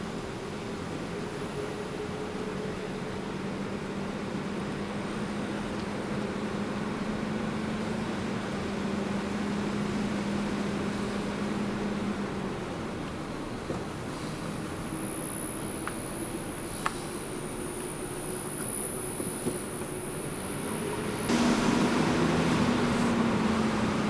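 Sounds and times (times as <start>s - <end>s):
low engine hum: 0.0s - 24.0s
tyre and wind road noise: 0.0s - 24.0s.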